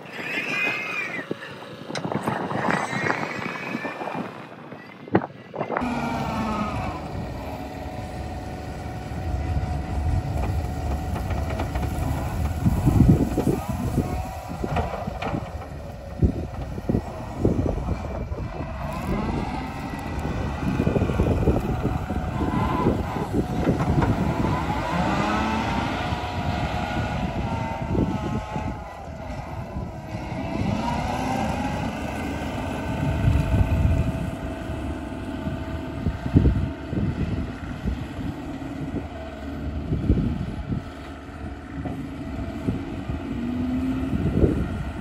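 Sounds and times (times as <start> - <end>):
wind buffeting microphone: 0.0 - 45.0
diesel engine running: 5.2 - 45.0.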